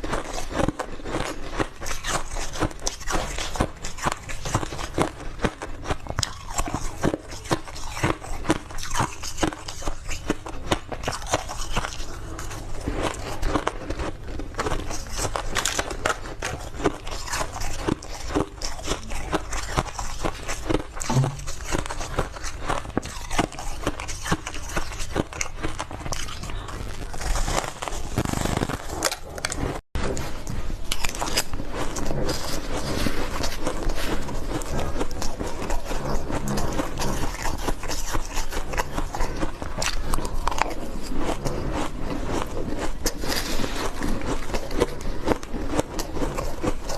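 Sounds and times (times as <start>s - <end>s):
chewing crunchy ice: 0.0s - 46.9s.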